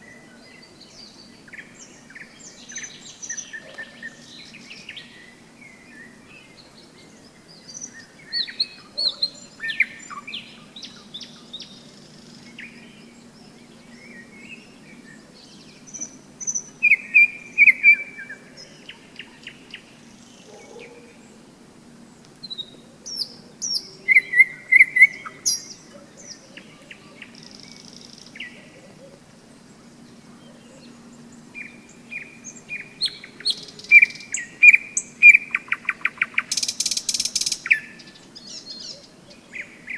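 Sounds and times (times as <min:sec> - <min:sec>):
nightingale singing: 0:00.0 - 0:21.4, 0:22.1 - 0:29.2, 0:29.8 - 0:39.9.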